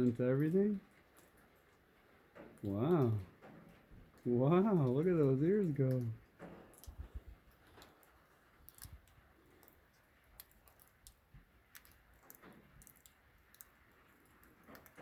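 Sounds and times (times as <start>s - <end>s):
raindrops ticking on metal roof: 0.0s - 15.0s
soft hiss of rain: 0.0s - 15.0s.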